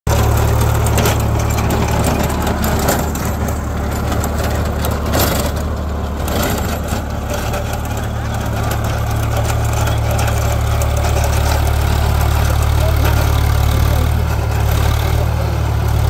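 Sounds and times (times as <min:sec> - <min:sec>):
tractor diesel engine under load: 0:00.0 - 0:16.0
rotavator churning soil: 0:00.1 - 0:16.0.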